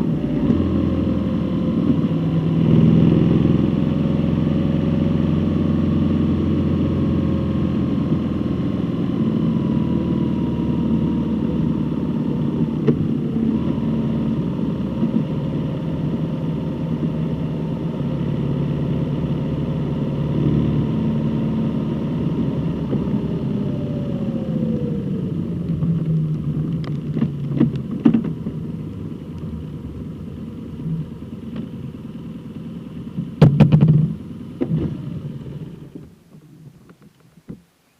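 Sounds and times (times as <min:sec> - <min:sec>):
vehicle engine running: 0:00.0 - 0:36.9.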